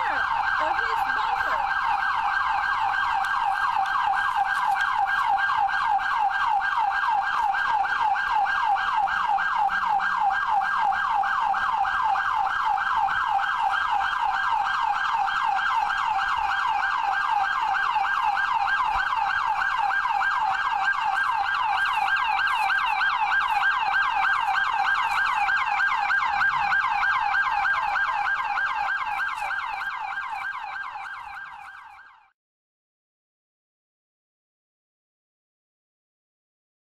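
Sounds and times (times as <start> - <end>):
emergency vehicle siren wailing: 0.0 - 32.3.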